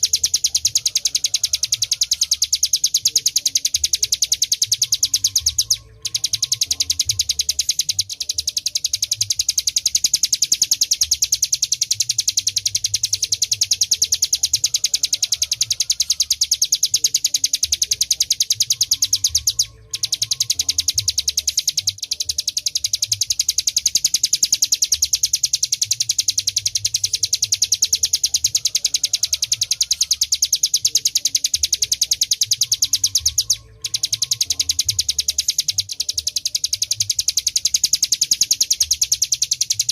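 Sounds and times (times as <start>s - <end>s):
bird singing rapid drilling trill: 0.0s - 39.9s.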